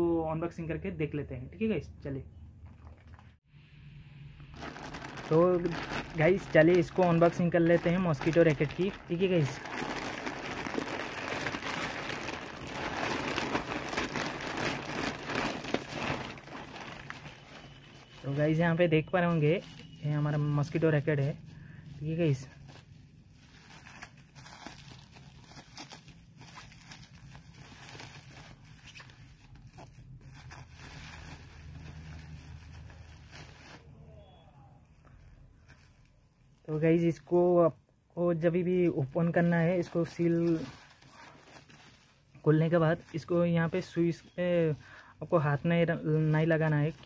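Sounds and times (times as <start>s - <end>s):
plastic bag crinkling: 4.4s - 33.9s, 38.6s - 47.0s.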